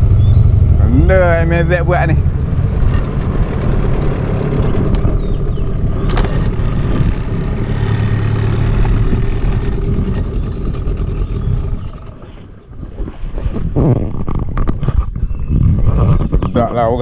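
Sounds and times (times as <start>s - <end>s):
boat motor running: 0.0s - 15.2s.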